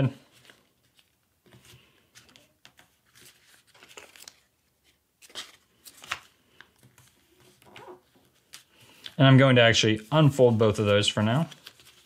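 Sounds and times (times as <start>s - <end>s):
paper rustling and crinkling: 0.2s - 9.2s, 9.8s - 12.0s.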